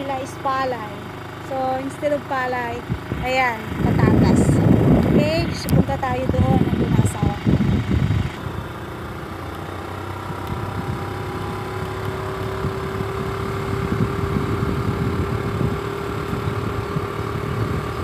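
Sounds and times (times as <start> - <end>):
bicycle riding hum: 0.0 - 18.0
wind rumbling on microphone: 2.4 - 18.0.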